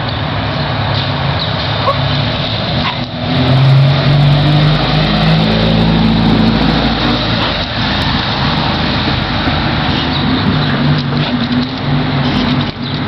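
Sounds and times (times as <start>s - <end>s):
tyre and traffic noise: 0.0s - 13.0s
car driving past: 1.8s - 12.7s.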